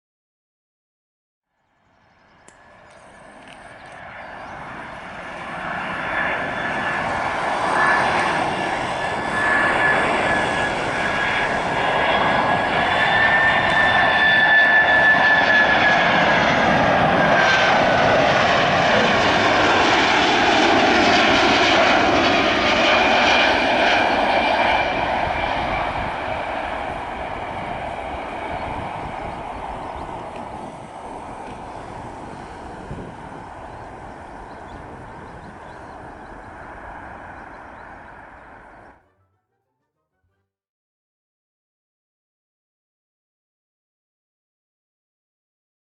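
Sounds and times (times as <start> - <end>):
jet engines landing: 2.1 - 39.0.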